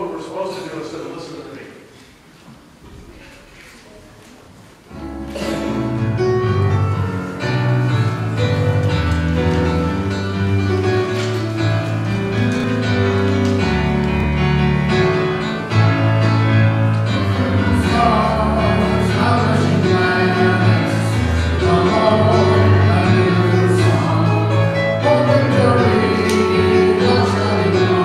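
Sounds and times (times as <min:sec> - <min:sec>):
worship band music with singing: 0:05.1 - 0:28.0.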